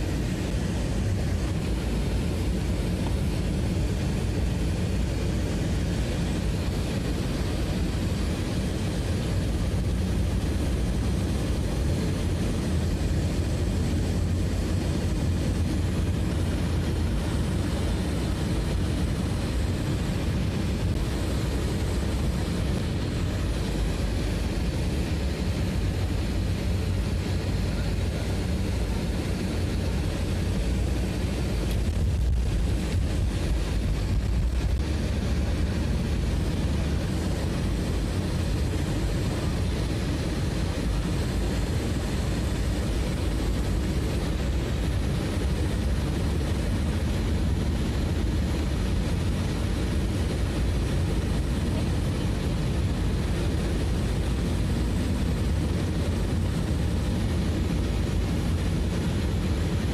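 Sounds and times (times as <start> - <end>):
low engine rumble: 0.0 - 59.9.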